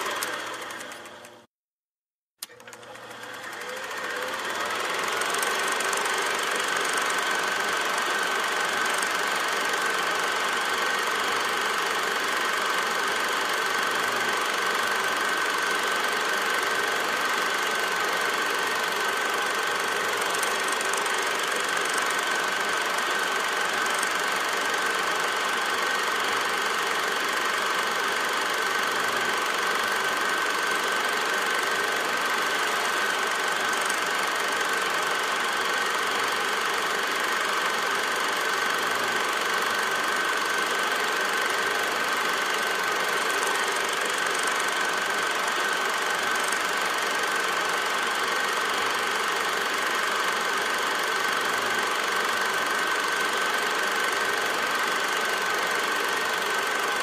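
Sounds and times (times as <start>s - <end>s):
machine clatter and hiss: 3.4s - 57.0s.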